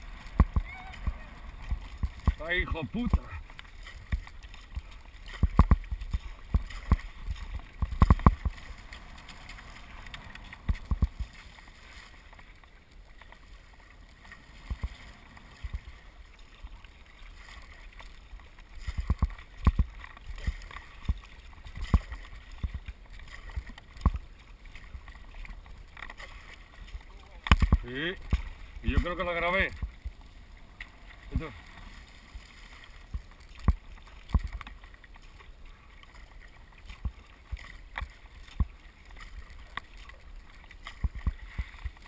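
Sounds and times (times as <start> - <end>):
paddle water splashing: 0.0 - 42.0.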